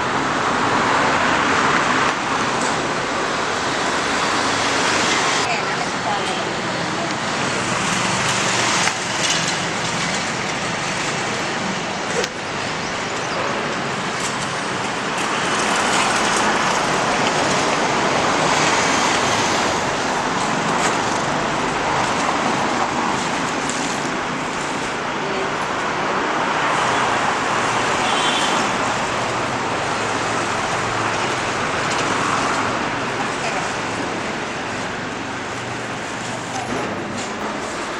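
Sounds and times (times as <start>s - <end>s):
vehicles passing on busy road: 0.0s - 37.9s.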